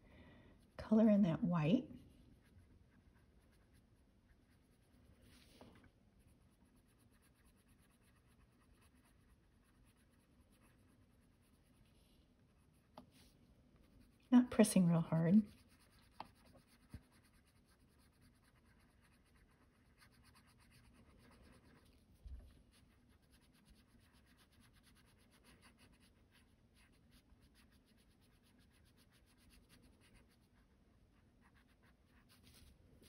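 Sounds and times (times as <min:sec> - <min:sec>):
pencil scratching on paper: 0:01.6 - 0:32.8.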